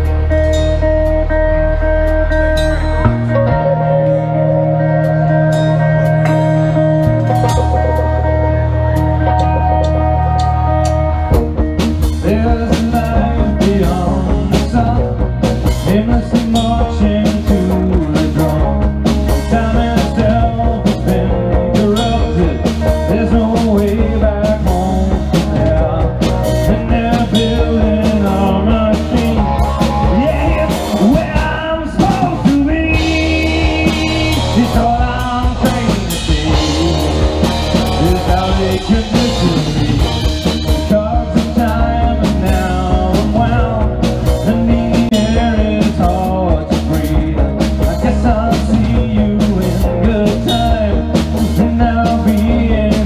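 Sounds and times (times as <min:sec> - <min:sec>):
bass guitar: 0:00.0 - 0:53.0
drum kit beat: 0:00.0 - 0:53.0
electric guitars: 0:00.0 - 0:53.0.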